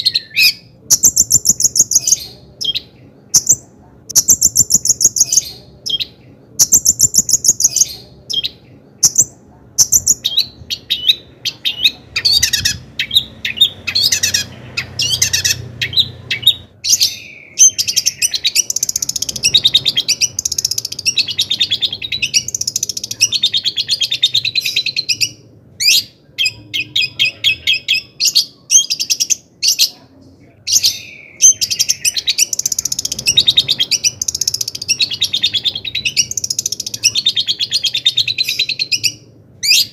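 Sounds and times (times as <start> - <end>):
bird chattering song: 0.0 - 30.0, 30.7 - 39.9.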